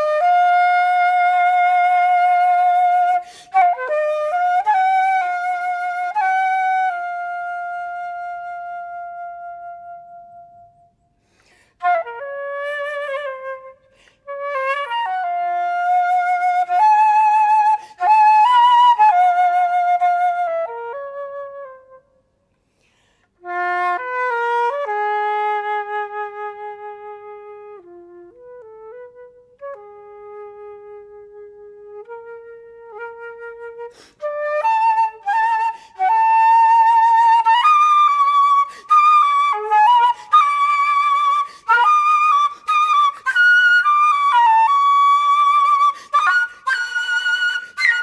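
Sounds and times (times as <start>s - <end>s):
solo flute melody: 0.0s - 48.0s.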